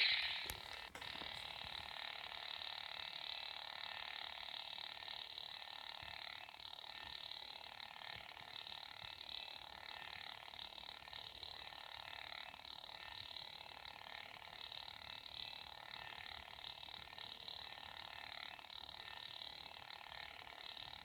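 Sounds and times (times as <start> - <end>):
high electronic hum: 0.0 - 21.0.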